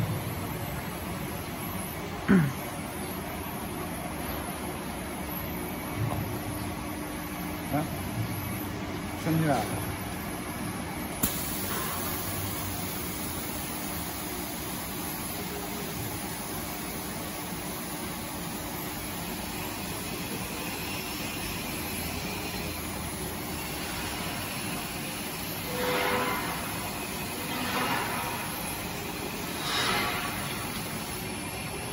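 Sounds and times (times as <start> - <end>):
mixer mechanical hum: 0.0 - 31.9.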